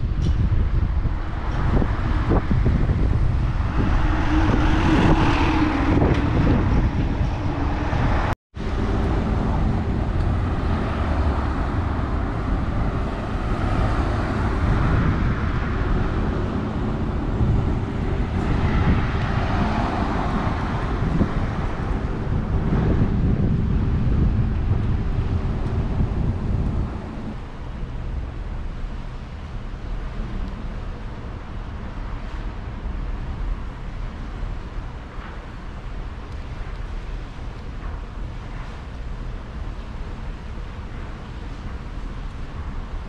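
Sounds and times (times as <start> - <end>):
road traffic: 0.0 - 43.0
wind rumbling on microphone: 0.0 - 43.0.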